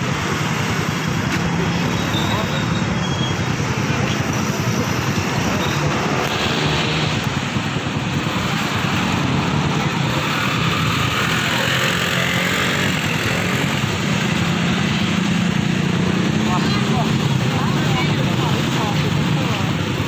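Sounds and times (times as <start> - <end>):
motorcycle engines running: 0.0 - 20.0
street traffic: 0.0 - 20.0.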